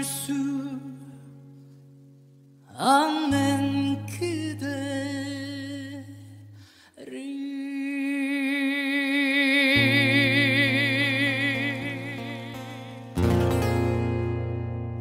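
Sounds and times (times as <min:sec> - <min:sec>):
man singing with vibrato: 0:00.0 - 0:01.6, 0:02.6 - 0:14.4.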